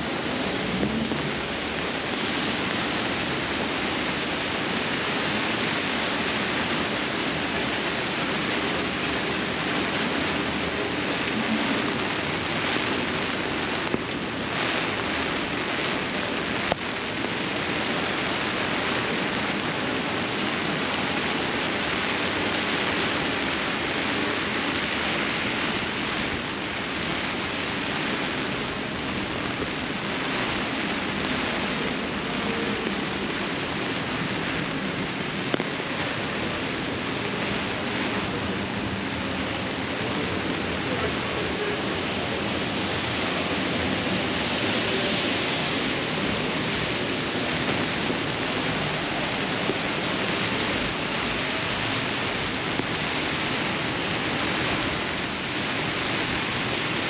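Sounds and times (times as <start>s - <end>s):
heavy rain on sidewalk: 0.0s - 57.0s
rain on an umbrella: 0.0s - 57.0s.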